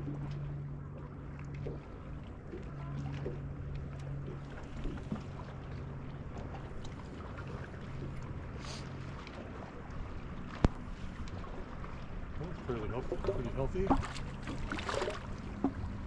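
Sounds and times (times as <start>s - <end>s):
boat motor humming: 0.0s - 16.0s
water: 0.0s - 16.0s
wind: 0.0s - 16.0s.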